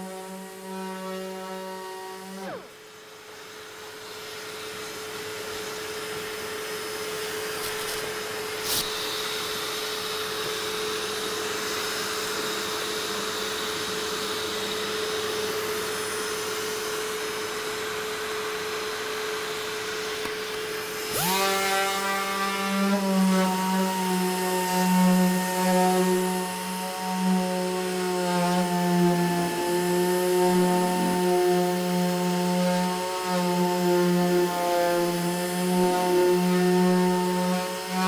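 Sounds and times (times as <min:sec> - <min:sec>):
dust extraction vacuum running: 0:00.0 - 0:38.0.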